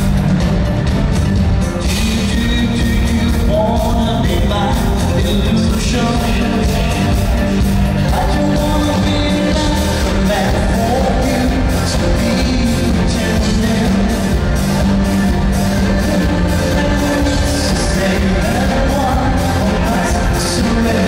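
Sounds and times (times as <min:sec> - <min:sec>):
electric bass: 0:00.0 - 0:21.0
live pop band playing: 0:00.0 - 0:21.0
male lead singer: 0:01.6 - 0:21.0.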